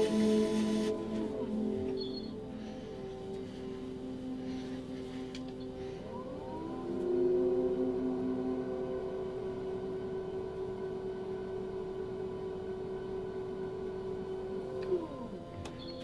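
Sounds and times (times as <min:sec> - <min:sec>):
pottery wheel motor whining: 0:00.0 - 0:02.5, 0:05.4 - 0:16.0.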